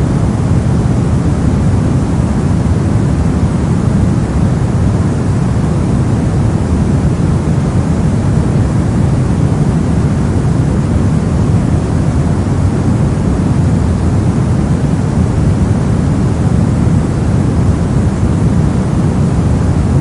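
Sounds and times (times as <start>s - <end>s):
deep rumbly hiss noise: 0.0s - 20.0s.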